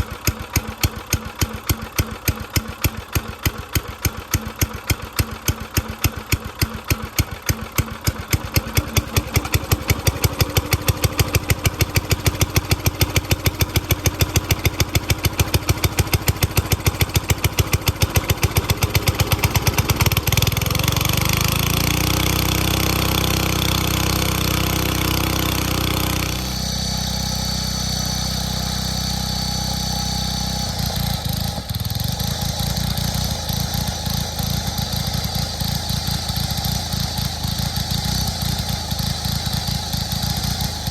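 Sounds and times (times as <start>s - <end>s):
small gas engine running rough: 0.0s - 40.9s.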